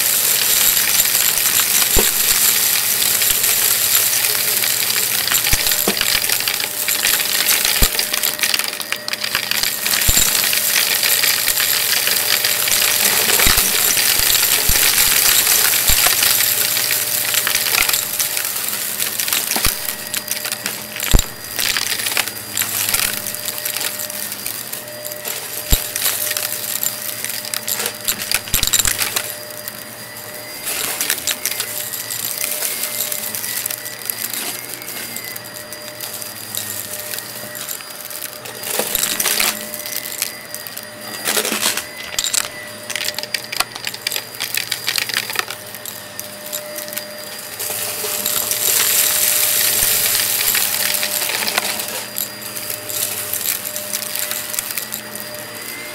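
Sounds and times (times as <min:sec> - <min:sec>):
debris rattling in vacuum brushroll: 0:00.0 - 0:55.9
vacuum motor humming: 0:00.0 - 0:55.9.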